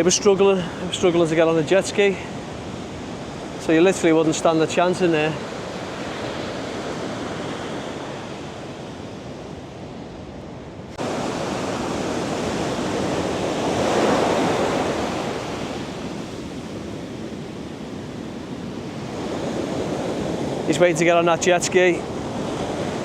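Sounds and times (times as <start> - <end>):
heavy ocean surf breaking: 0.0 - 23.0.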